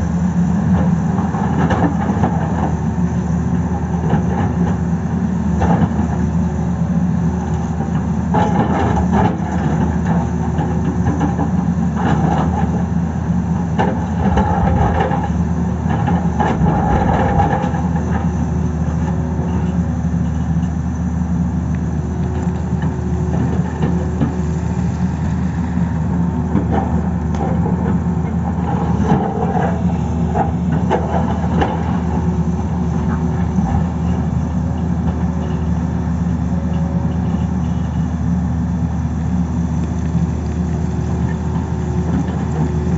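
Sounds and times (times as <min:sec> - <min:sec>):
excavator diesel engine: 0:00.0 - 0:42.9.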